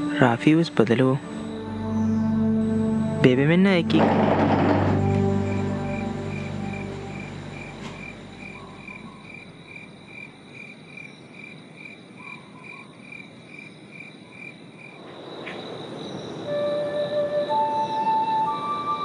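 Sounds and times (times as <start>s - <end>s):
insects trilling: 0.4s - 19.0s.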